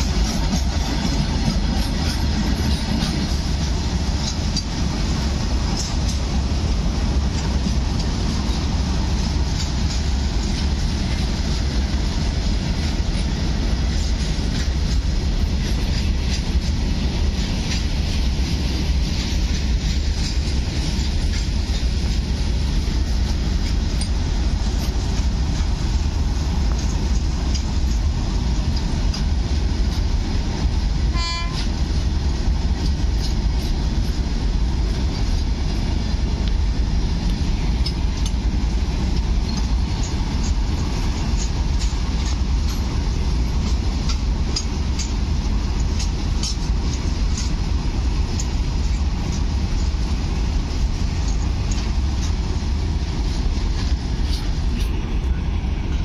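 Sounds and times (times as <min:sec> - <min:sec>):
freight train rumble: 0:00.0 - 0:56.0
wheels clattering over rails: 0:00.0 - 0:56.0.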